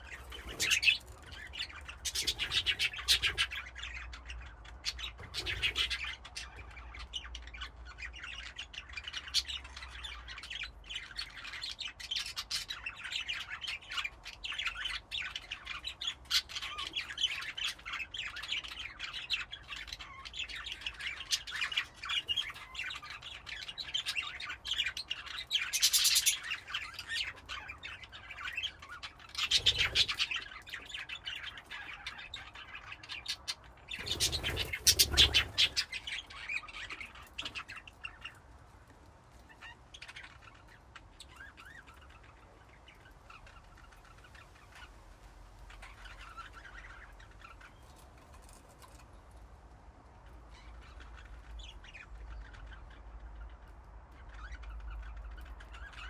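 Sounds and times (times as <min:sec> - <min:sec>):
budgerigars chattering and chirping: 0:00.0 - 0:38.6, 0:39.4 - 0:45.0, 0:45.7 - 0:49.1, 0:50.2 - 0:56.0.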